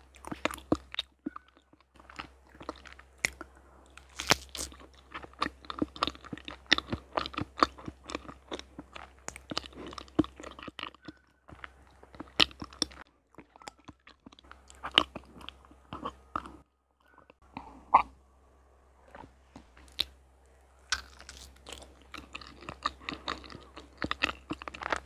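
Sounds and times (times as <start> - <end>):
wet chewing sounds: 0.0 - 18.1, 19.1 - 20.2, 20.8 - 25.0.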